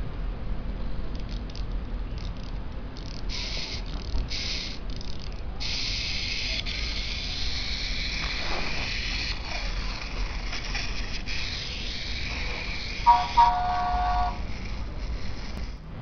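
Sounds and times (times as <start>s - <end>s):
clockwork toy motor whirring: 1.1s - 15.8s.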